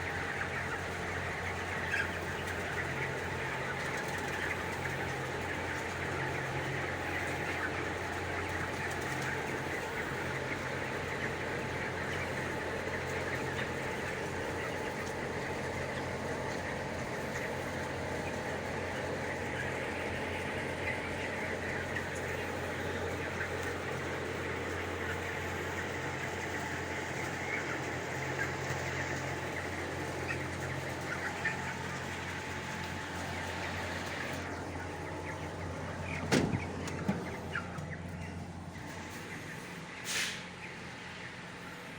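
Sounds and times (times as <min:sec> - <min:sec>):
chickens chattering: 0:00.0 - 0:41.9
low machine hum: 0:00.0 - 0:41.9.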